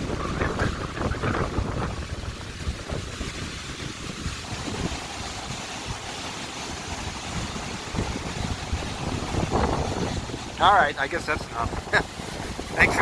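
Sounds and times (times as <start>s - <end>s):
strong wind gusting: 0.0s - 6.0s, 7.0s - 13.0s
wind buffeting microphone: 0.0s - 13.0s.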